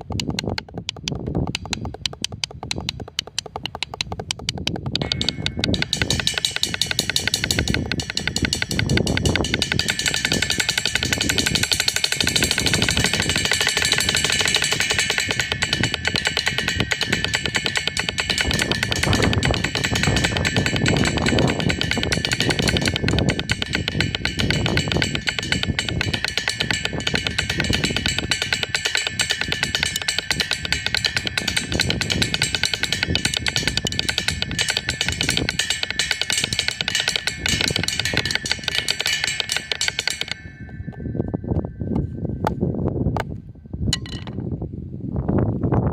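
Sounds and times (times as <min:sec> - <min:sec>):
rapid drum hits: 0:00.0 - 0:41.1
high ringing: 0:01.5 - 0:43.0.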